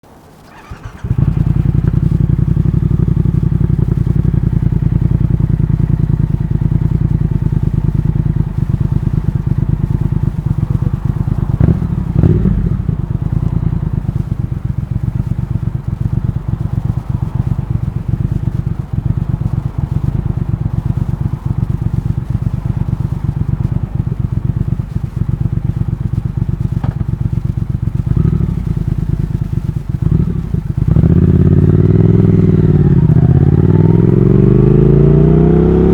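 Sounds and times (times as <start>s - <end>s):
motorcycle engine running: 0.5s - 35.9s.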